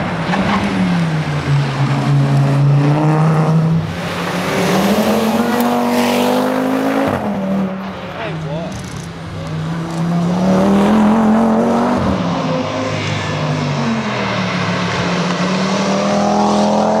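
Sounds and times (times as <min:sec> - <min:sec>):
rally car engine racing: 0:00.0 - 0:17.0.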